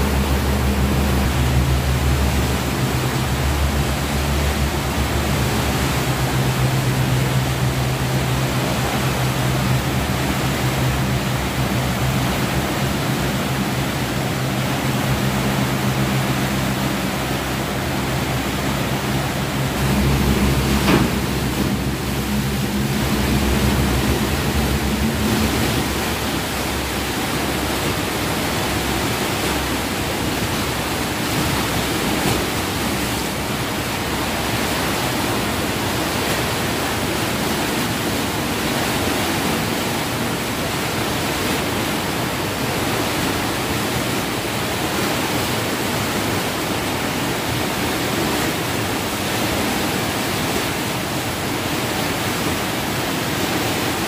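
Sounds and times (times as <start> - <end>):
low steady hum: 0.0 - 45.0
water rushing through sluice gate: 0.0 - 54.0.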